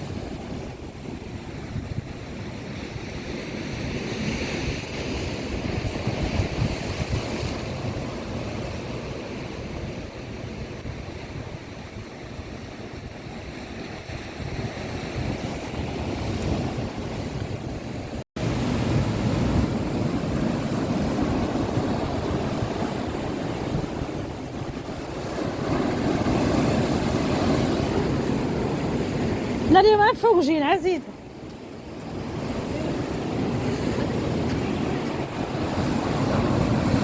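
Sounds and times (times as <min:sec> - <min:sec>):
sea waves washing on shore: 0:00.0 - 0:37.0
wind rumbling on microphone: 0:00.0 - 0:37.0.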